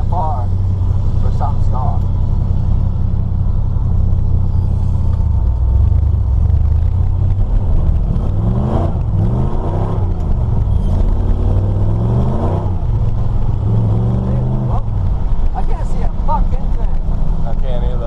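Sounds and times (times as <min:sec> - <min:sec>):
pickup engine revving: 0:00.0 - 0:18.0.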